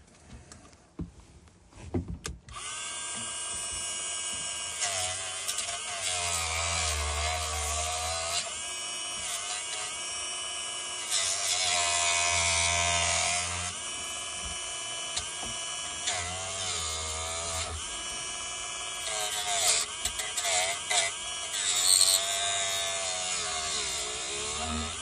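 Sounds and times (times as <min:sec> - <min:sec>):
rotary tool cutting rubber: 0:02.5 - 0:25.0.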